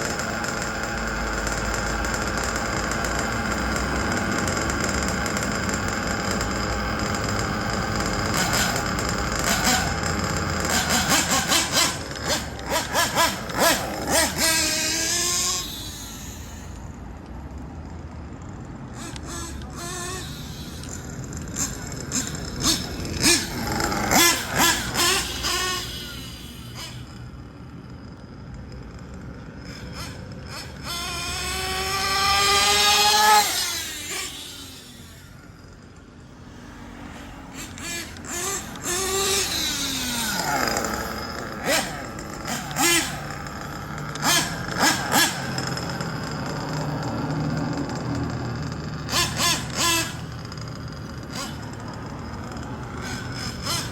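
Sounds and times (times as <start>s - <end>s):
small nitro engine revving: 0.0s - 53.9s.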